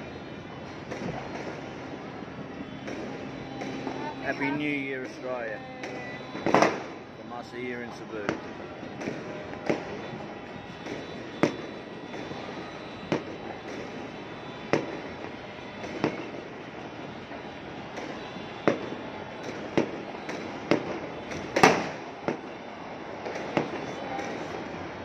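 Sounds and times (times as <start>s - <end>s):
distant fireworks popping: 0.0s - 25.0s
firework bangs: 0.0s - 25.0s.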